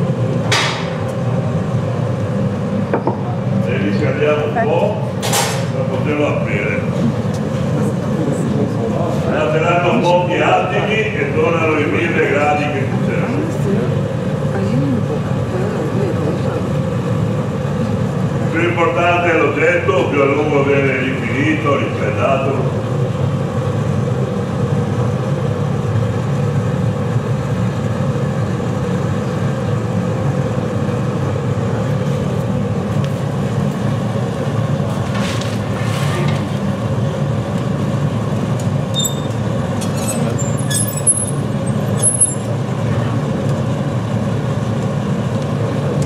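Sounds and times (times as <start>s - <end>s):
furnace roaring: 0.0s - 46.0s.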